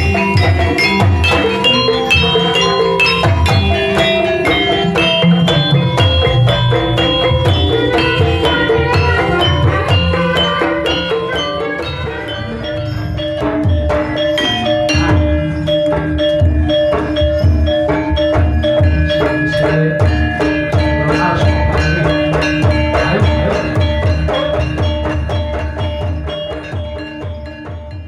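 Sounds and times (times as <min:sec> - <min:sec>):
fast driving drum pattern: 0:00.0 - 0:28.0
tuned metal mallet instruments: 0:00.0 - 0:28.0.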